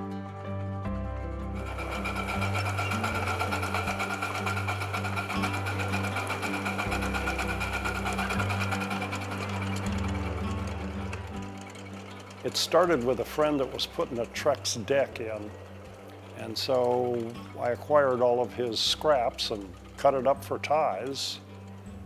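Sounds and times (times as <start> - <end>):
background music: 0.0 - 22.0
steam locomotive clatter: 1.6 - 21.9.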